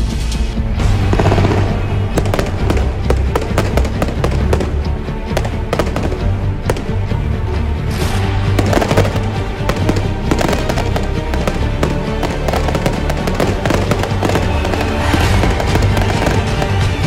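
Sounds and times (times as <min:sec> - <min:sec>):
music playing: 0:00.0 - 0:17.0
firecrackers crackling: 0:01.0 - 0:07.3, 0:08.0 - 0:17.0.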